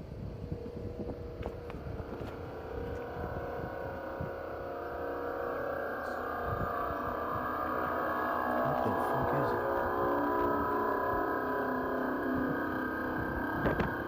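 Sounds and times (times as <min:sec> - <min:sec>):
low rumble: 0:00.0 - 0:14.0
trumpet-like drone from sky: 0:00.0 - 0:14.0.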